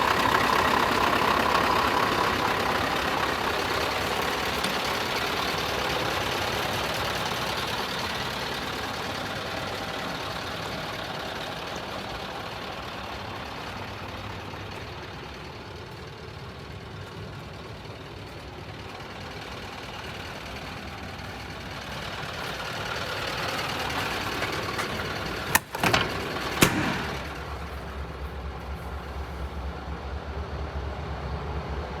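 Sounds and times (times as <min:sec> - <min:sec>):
truck diesel engine idling: 0:00.0 - 0:32.0.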